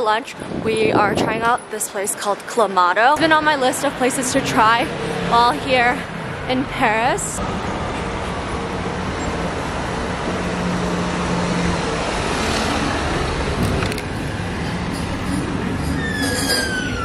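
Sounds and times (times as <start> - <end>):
passing vehicles: 0.0 - 17.0.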